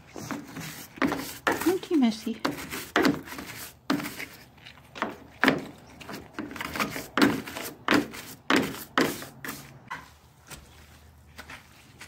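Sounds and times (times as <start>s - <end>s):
brush scrubbing window track: 0.0s - 12.0s.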